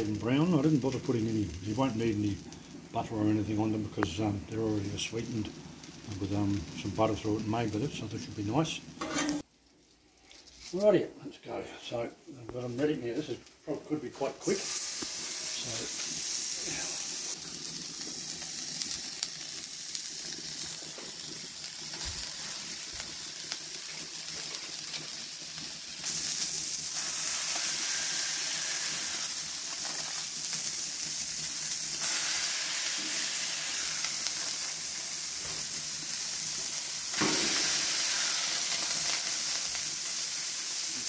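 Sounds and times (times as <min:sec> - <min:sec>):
meat sizzling on a griddle: 0:00.0 - 0:10.6, 0:14.2 - 0:41.0.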